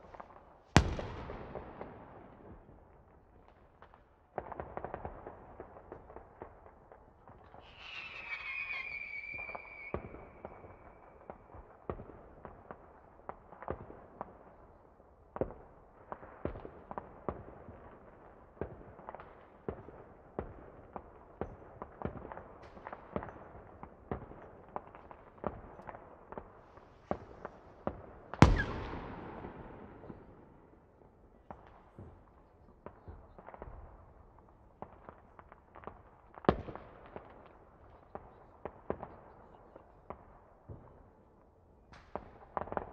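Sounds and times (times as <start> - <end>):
firework pops and bangs: 0.0 - 2.7, 3.4 - 14.5, 18.6 - 41.1, 41.9 - 42.9.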